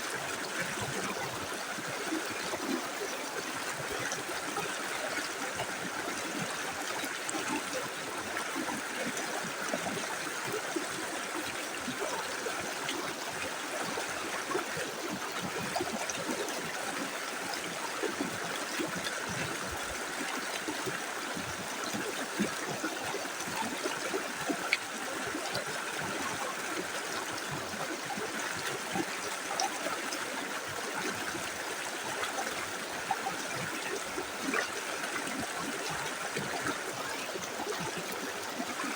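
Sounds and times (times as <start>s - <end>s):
river flowing over stones: 0.0s - 38.9s.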